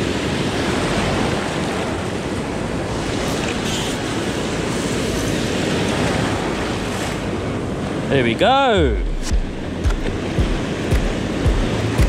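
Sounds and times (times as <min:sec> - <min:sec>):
waves breaking on a beach: 0:00.0 - 0:12.0
wind rumbling on microphone: 0:00.0 - 0:12.0.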